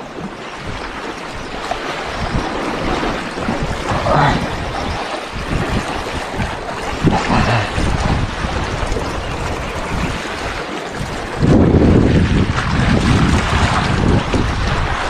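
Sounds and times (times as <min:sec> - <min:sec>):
waves washing against rocks: 0:00.0 - 0:15.0
wind rumbling on microphone: 0:00.0 - 0:15.0.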